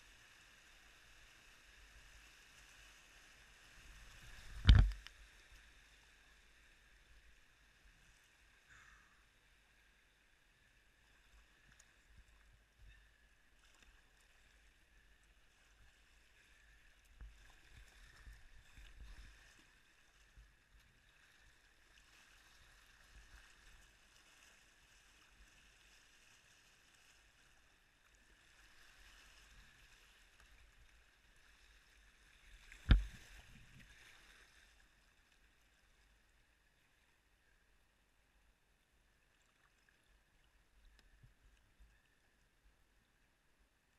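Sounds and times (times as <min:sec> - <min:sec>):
rushing river water: 0:00.0 - 0:36.0.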